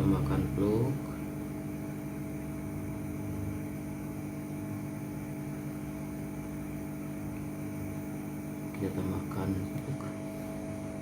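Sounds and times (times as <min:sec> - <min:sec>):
hot air rework station humming: 0:00.0 - 0:11.0.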